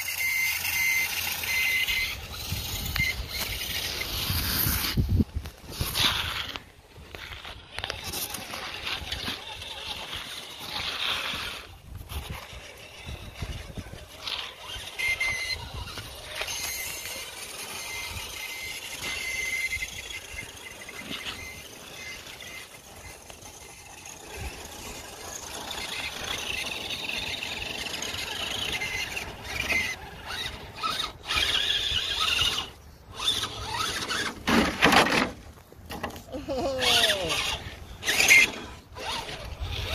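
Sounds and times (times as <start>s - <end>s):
electric motor and gear whine: 0.0s - 39.9s
tyres through snow: 0.0s - 39.9s.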